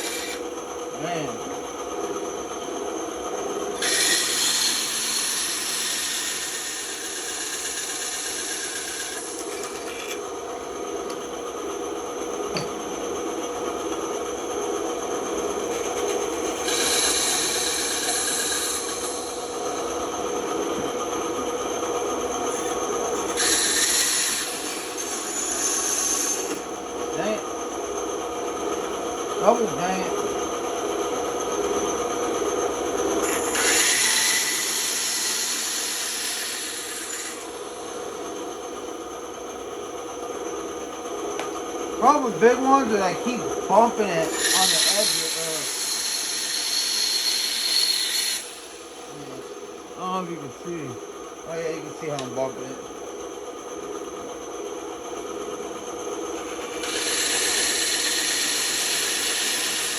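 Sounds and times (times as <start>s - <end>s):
band saw running: 0.0s - 59.9s.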